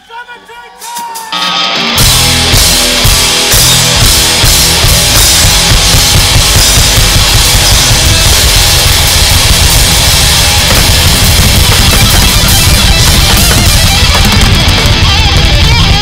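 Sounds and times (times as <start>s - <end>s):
pounding drum kit: 0.9s - 16.0s
heavy guitars: 1.2s - 16.0s
live hard rock band: 1.2s - 16.0s.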